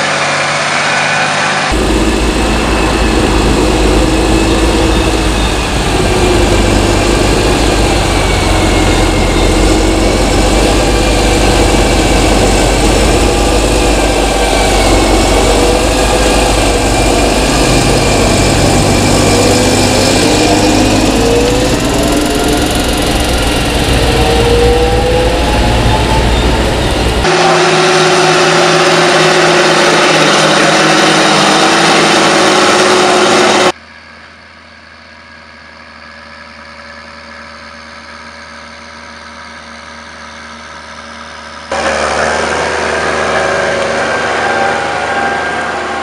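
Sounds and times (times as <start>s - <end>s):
tractor diesel engine driving past: 0.0s - 33.8s, 41.7s - 46.0s
high engine whine: 0.0s - 46.0s.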